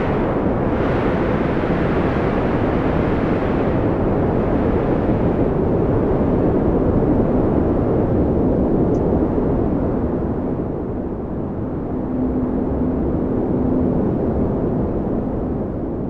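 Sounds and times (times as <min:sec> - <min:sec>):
storm wind rushing: 0:00.0 - 0:16.0.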